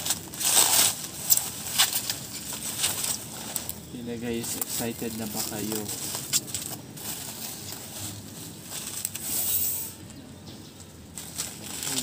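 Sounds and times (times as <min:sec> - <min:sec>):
bubble wrap crinkling: 0:00.0 - 0:10.0, 0:11.1 - 0:12.0.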